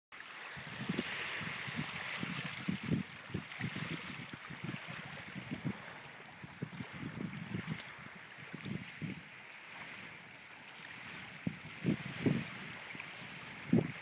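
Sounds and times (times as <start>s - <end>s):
water splashing and lapping: 0.1s - 14.0s
wind gusting on microphone: 0.2s - 14.0s.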